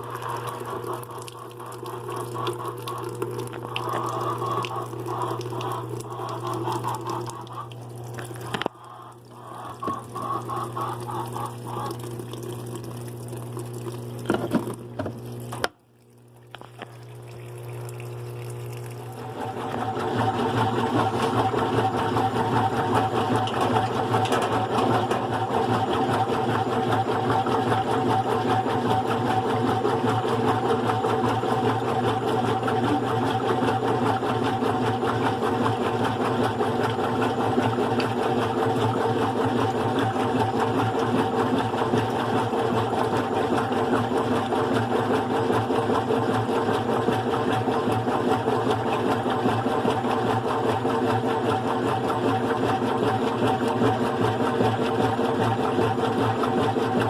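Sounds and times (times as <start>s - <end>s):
washing machine hum with gear whine: 0.0s - 57.0s.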